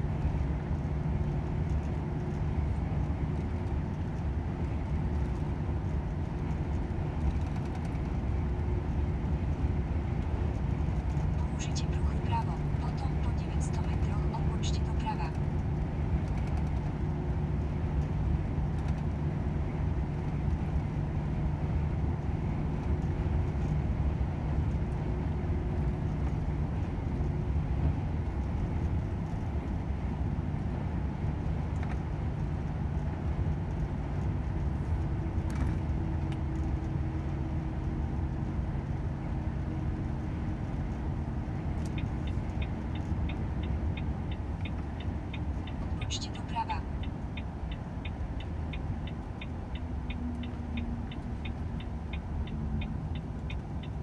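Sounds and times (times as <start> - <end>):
road noise: 0.0 - 54.0
truck diesel engine running: 0.0 - 54.0.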